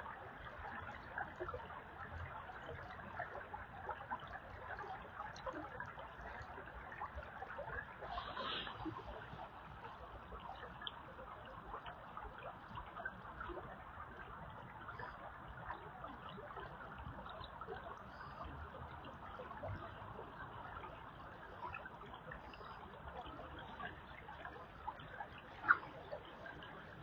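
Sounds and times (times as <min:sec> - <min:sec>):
creek water trickling: 0:00.0 - 0:27.0.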